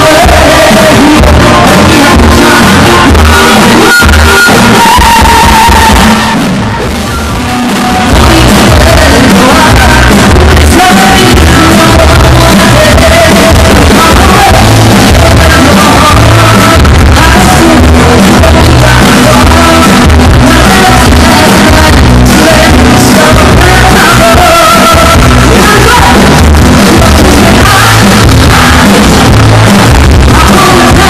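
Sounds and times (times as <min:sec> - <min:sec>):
live band playing: 0:00.0 - 0:31.0.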